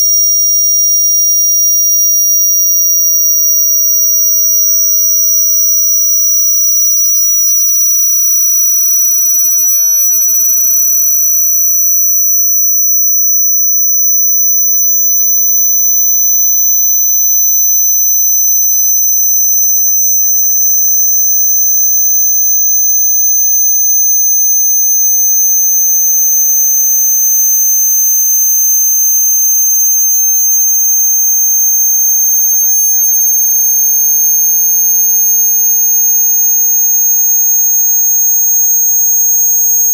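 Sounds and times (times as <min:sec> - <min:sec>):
rising sine-wave test tone: 0:00.0 - 0:39.9.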